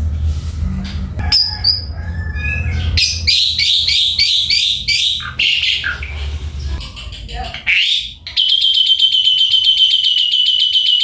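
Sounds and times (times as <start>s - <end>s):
starling singing: 1.2s - 11.0s.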